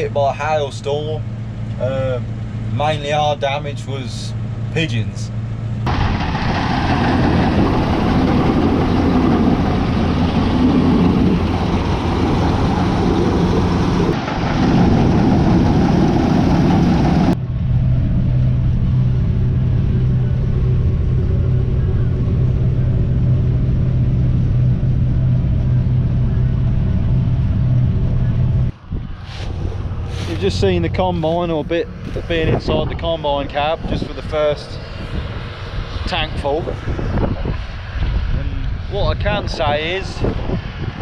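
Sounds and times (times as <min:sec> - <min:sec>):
combine harvester engine and machinery: 0:00.0 - 0:41.0.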